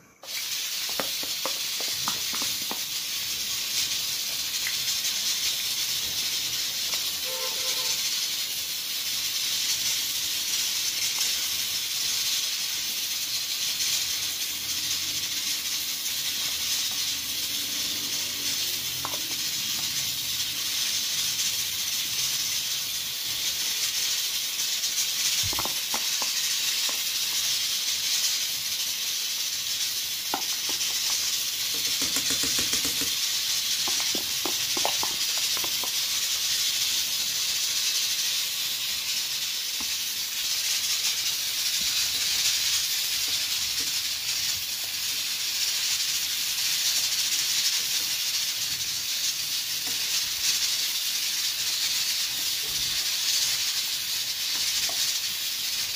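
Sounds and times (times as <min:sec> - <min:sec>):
food sizzling in hot oil: 0:00.0 - 0:55.9.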